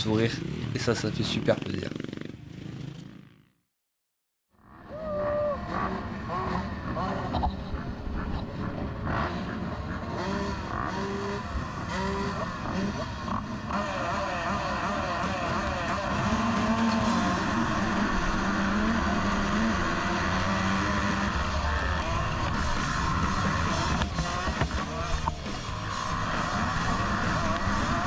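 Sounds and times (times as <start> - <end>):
motocross bikes revving: 0.0 - 3.4, 4.6 - 28.0.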